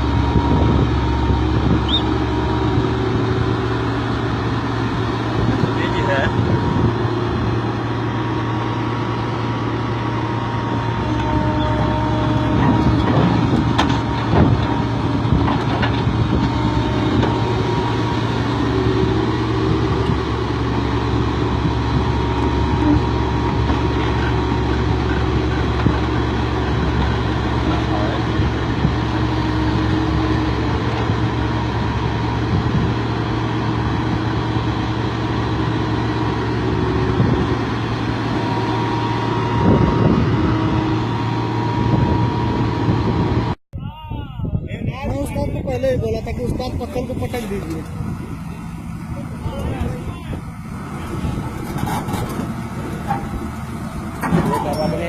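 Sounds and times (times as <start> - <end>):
diesel engine running under load: 0.0 - 43.6, 44.8 - 55.0.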